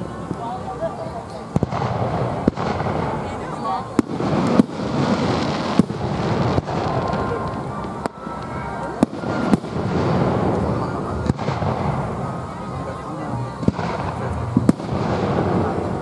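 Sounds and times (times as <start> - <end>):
rumble of firework bursts: 0.0 - 16.0
firework shells bursting: 1.4 - 12.5, 13.6 - 16.0.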